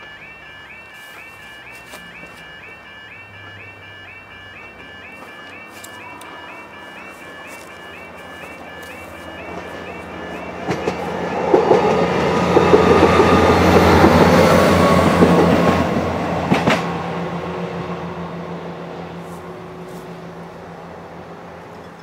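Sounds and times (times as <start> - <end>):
diesel train hum: 0.0 - 22.0.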